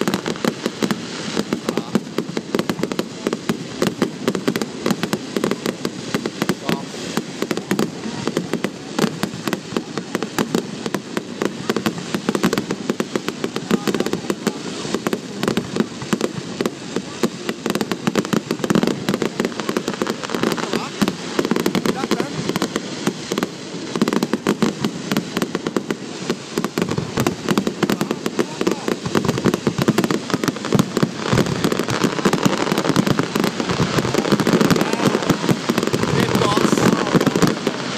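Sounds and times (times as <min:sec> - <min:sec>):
fireworks bangs and crackling: 0:00.0 - 0:37.9
people's voices: 0:01.4 - 0:37.9.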